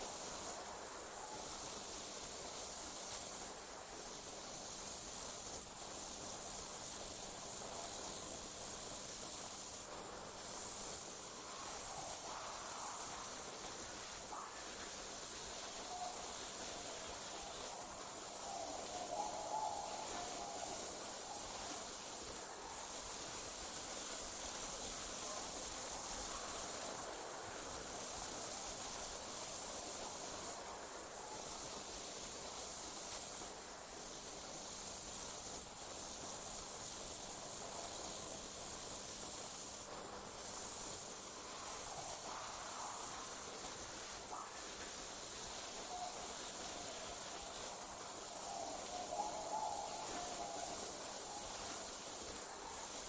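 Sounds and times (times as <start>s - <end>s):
crickets chirring: 0.0s - 53.0s
faint lower insect calls: 0.0s - 53.0s.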